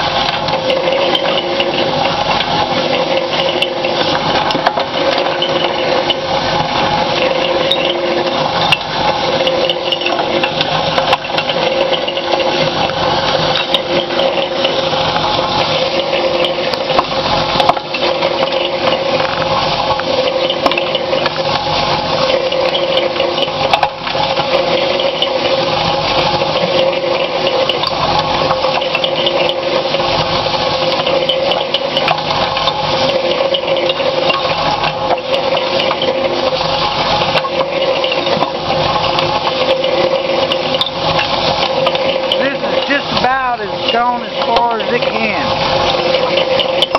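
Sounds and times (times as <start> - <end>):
mixer motor humming: 0.0 - 46.9
steel balls clattering in drum: 0.0 - 46.9.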